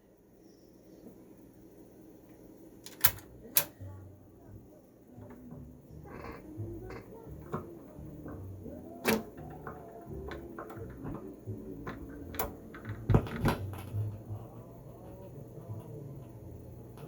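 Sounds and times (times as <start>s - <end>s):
faint radio sound: 0.0s - 17.0s.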